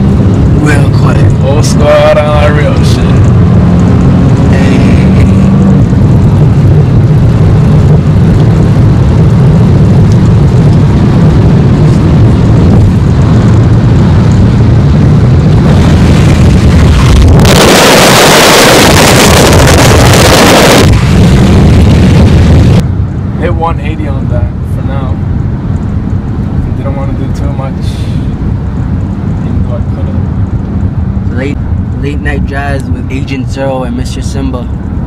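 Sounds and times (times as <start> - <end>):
wind noise rushing: 0.0 - 33.6
car engine accelerating hard: 0.0 - 35.0.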